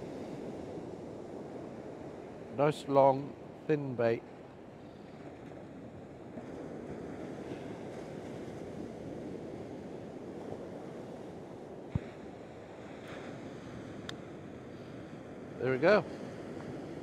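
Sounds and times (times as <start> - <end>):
sea surf washing on beach: 0.0 - 17.0.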